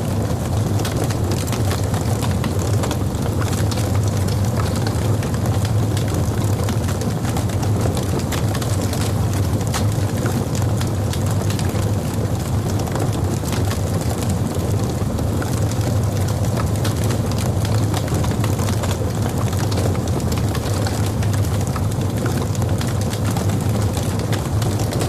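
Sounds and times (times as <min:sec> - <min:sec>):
fire crackling and popping: 0:00.0 - 0:25.0
low rumble of fire: 0:00.0 - 0:25.0.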